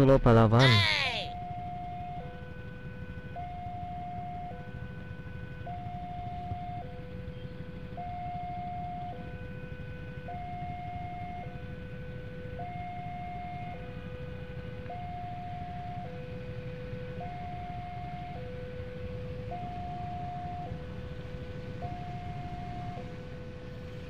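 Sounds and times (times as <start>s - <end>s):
motorcycle engines idling: 0.0s - 24.0s.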